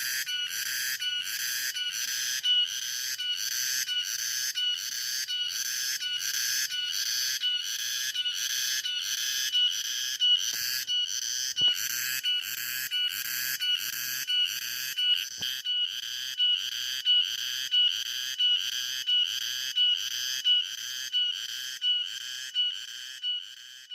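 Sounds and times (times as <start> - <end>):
cicadas pulsing buzz: 0.0 - 23.9
high-pitched cicada drone: 0.0 - 23.9.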